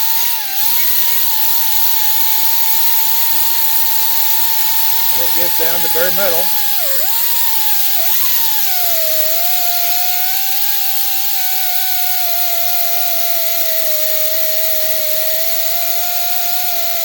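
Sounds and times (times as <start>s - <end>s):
abrasive disc scrubbing rusty steel: 0.0s - 14.6s
air buffing tool whining: 0.0s - 17.0s.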